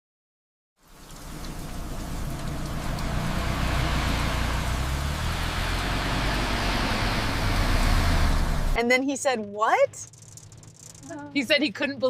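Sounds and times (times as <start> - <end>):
vehicle engine running: 0.8 - 9.0, 10.0 - 12.0.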